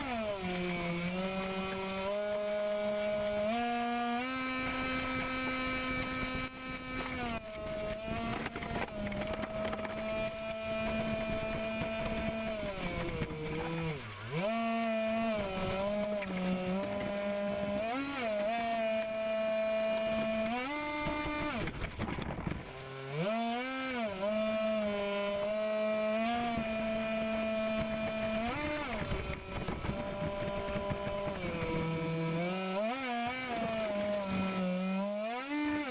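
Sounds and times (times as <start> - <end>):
model boat motor and propeller whining: 0.0 - 35.9.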